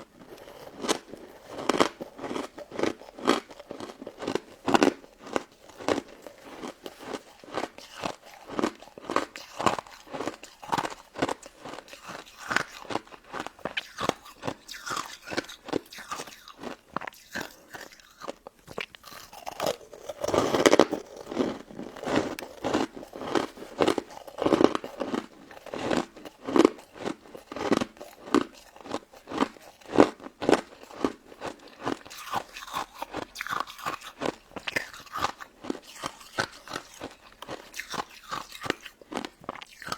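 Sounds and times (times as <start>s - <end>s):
crunchy ice chewing: 0.0s - 39.9s.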